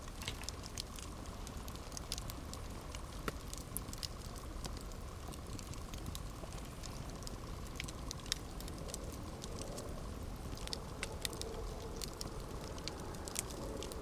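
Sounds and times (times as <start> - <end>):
low fire rumble: 0.0 - 14.0
wood crackling and popping: 0.0 - 14.0.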